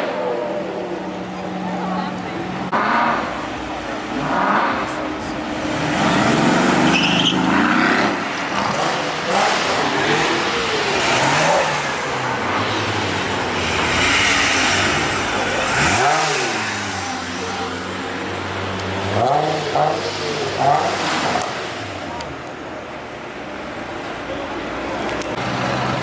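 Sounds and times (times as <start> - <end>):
car engine revving: 0.0 - 22.5.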